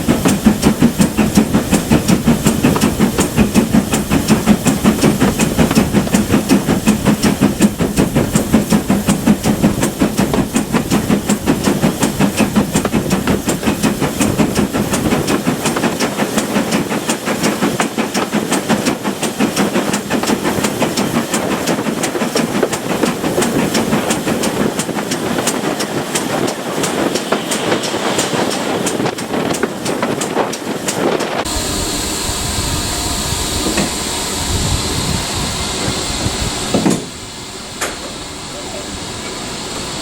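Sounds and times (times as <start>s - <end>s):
locomotive rumble: 0.0s - 40.0s
steam hiss: 0.0s - 40.0s
steam locomotive exhaust beats: 0.0s - 40.0s.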